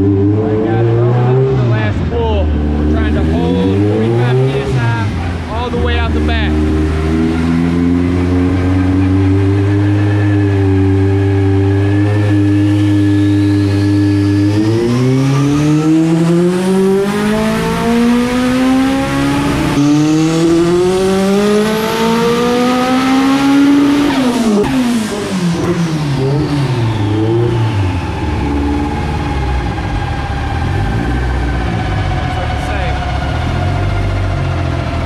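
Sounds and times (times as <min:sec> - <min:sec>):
turbo whine: 0:00.0 - 0:22.4, 0:23.6 - 0:35.0
car engine revving on dyno: 0:00.0 - 0:35.0.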